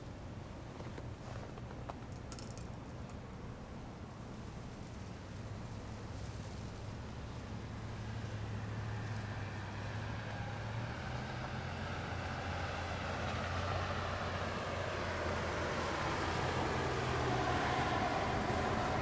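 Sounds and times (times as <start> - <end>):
vehicle engine and tyre noise: 0.4 - 2.8, 5.3 - 19.0.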